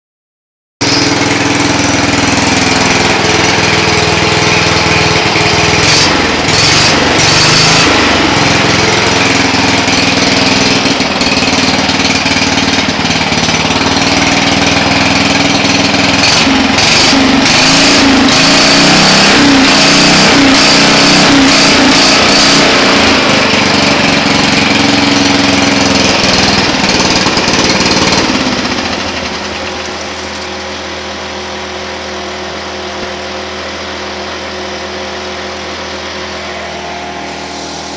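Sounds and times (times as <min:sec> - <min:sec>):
lawn mower engine revving: 0:00.8 - 0:37.9.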